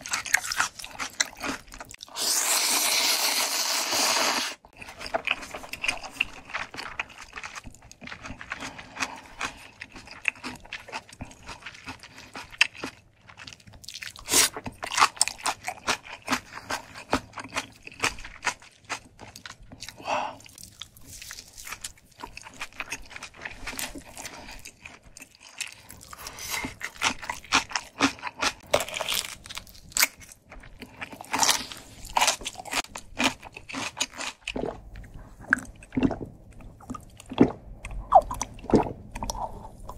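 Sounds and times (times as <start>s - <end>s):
chewing food: 0.0s - 2.1s, 4.7s - 39.9s.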